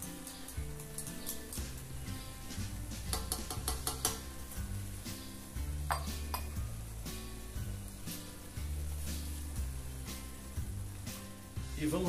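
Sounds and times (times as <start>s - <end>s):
background music with bass line: 0.0s - 12.0s
food sizzling in a pan: 0.0s - 12.0s.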